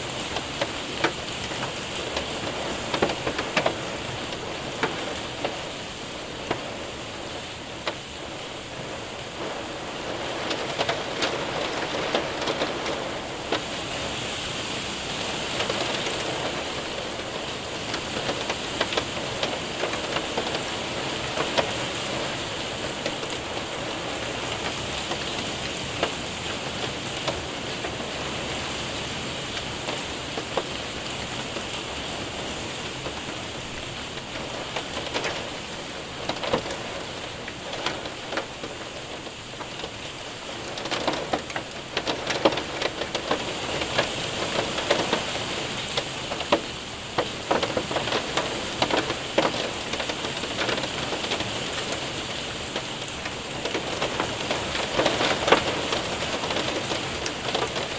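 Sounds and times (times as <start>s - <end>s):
hailstones ticking: 0.0s - 57.9s
rain hissing on window and roof: 0.0s - 57.9s.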